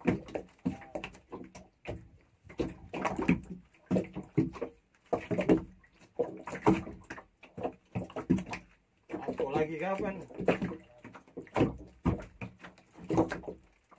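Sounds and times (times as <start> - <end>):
water slapping against boat hull: 0.0 - 13.9.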